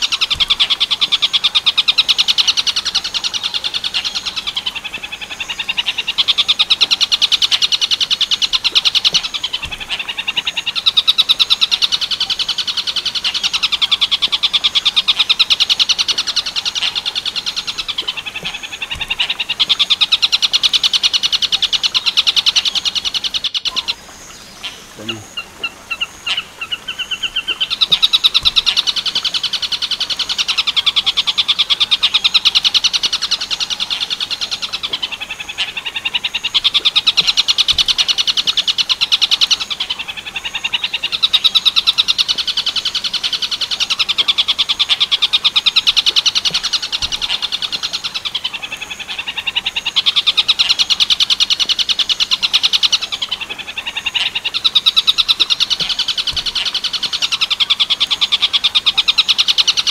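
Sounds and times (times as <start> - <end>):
kingfisher rattling trills: 0.0 - 59.9.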